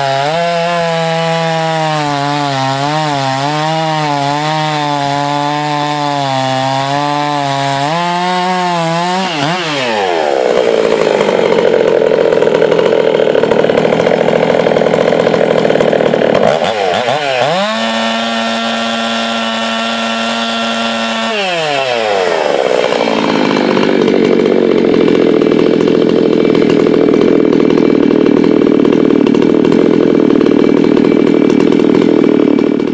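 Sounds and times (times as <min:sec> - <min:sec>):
chainsaw cutting and revving: 0:00.0 - 0:32.9.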